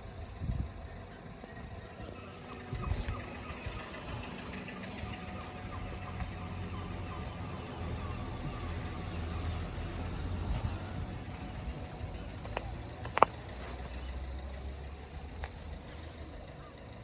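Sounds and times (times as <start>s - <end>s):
road vehicle engines running: 0.0s - 17.0s.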